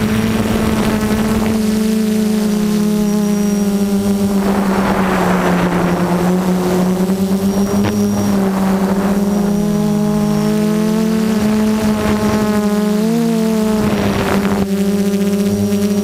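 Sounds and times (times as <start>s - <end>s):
wind noise: 0.0s - 14.8s
drone motors buzzing: 0.0s - 16.0s.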